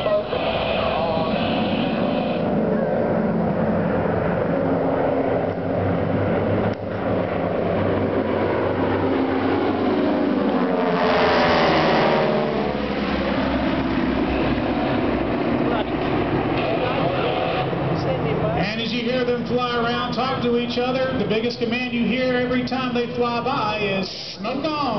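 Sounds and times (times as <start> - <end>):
aerobatic aircraft engines flying past: 0.0 - 24.9.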